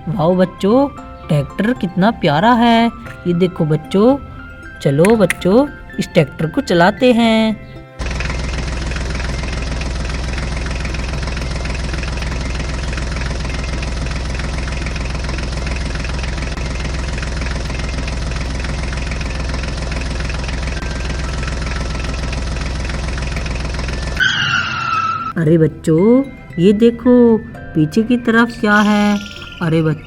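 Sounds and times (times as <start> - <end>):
tractor engine idling: 0.0 - 7.2, 8.0 - 25.2, 27.5 - 30.0.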